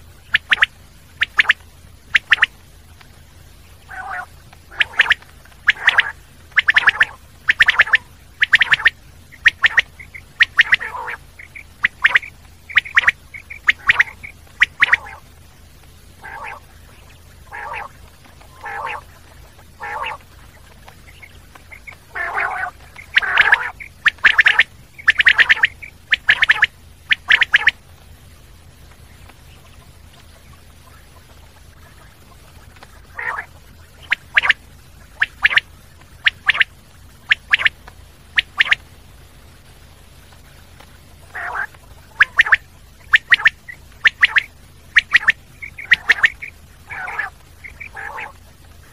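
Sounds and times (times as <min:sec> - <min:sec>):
quail calling: 0:00.0 - 0:39.0, 0:40.4 - 0:48.9.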